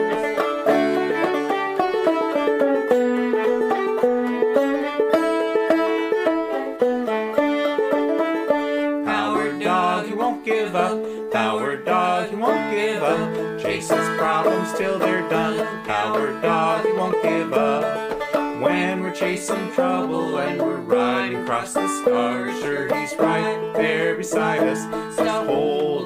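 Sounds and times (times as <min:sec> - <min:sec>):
banjo country tune: 0:00.0 - 0:26.0.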